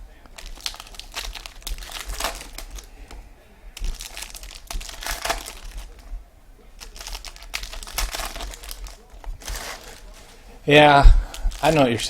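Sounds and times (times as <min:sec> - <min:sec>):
plastic and foil wrappers crinkling: 0:00.0 - 0:12.0.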